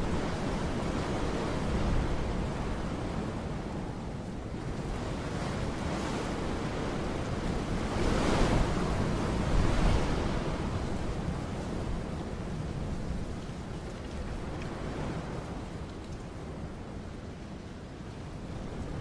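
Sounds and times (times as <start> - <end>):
wind blowing: 0.0 - 19.0.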